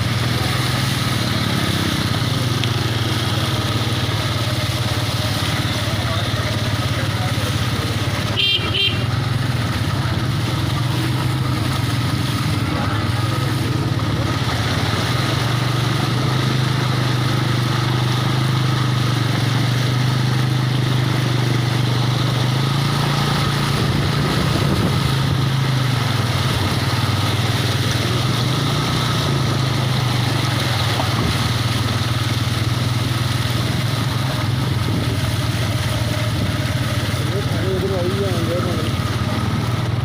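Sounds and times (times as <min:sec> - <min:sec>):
rain hissing: 0:00.0 - 0:40.0.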